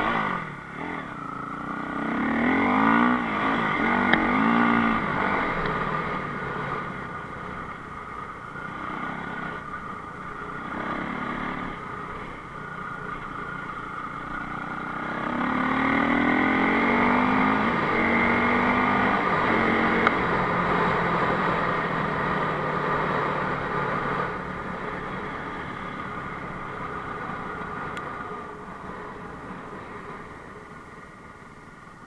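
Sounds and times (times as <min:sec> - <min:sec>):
motorcycle engine accelerating: 0:00.0 - 0:31.7.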